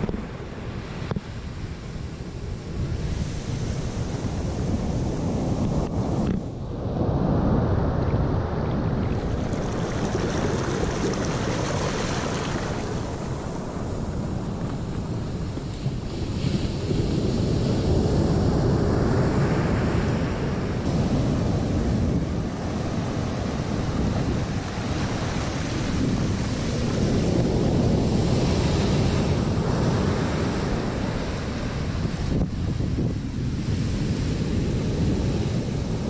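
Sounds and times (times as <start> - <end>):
surf breaking on a beach: 0.0 - 36.0
wind buffeting microphone: 0.0 - 36.0.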